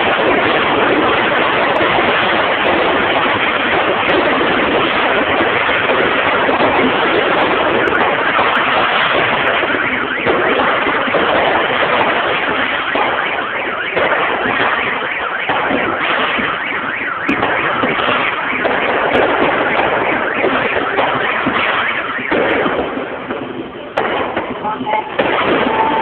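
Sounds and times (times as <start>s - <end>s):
fireworks crackling: 0.0s - 26.0s.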